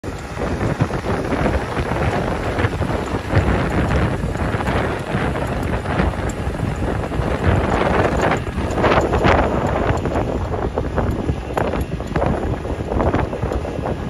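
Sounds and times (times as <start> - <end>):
tractor diesel engine rumbling: 0.0 - 14.0
wind buffeting microphone: 0.0 - 14.0.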